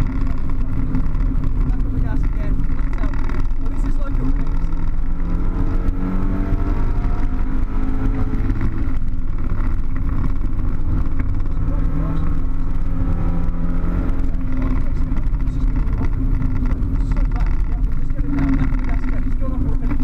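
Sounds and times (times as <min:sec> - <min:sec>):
car engine: 0:00.0 - 0:20.0
tyre rumble: 0:00.0 - 0:20.0.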